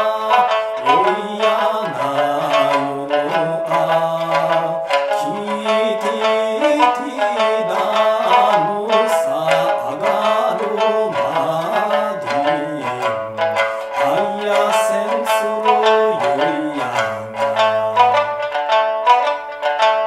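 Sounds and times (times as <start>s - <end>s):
man singing: 0.0s - 18.6s
plucked lute folk rhythm: 0.0s - 20.0s.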